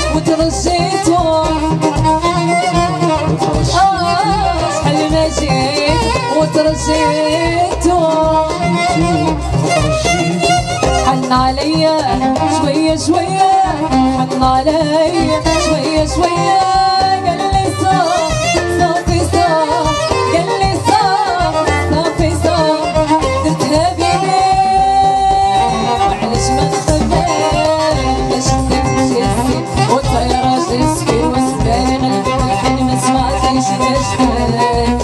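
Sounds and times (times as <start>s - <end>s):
driving drum beat: 0.0s - 35.0s
live band music: 0.0s - 35.0s.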